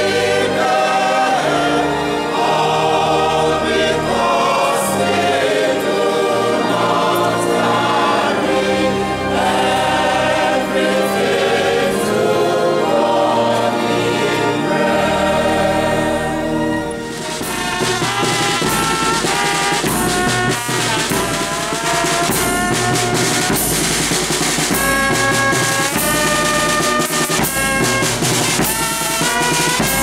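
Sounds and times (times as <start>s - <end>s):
church choir singing: 0.0s - 30.0s.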